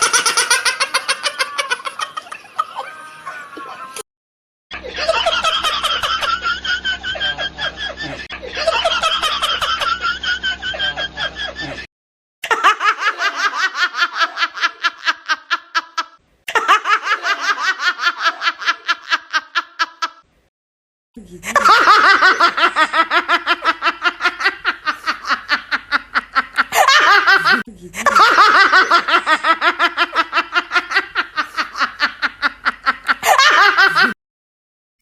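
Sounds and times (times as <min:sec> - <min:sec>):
high-pitched laugh: 0:00.0 - 0:04.0, 0:04.7 - 0:20.2, 0:21.2 - 0:34.2.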